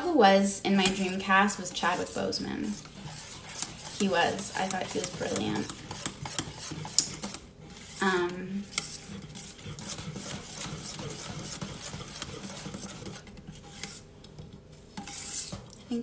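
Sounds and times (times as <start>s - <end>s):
whisk scraping metal bowl: 0.0s - 16.0s.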